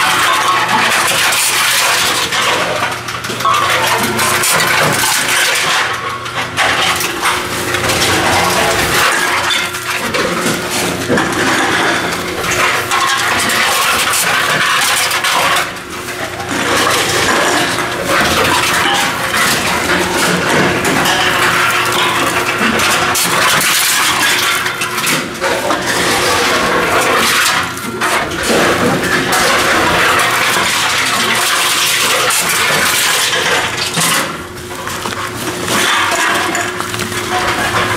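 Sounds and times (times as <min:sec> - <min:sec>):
cans clinking and rattling: 0:00.0 - 0:37.9
steady machine hum: 0:00.0 - 0:37.9.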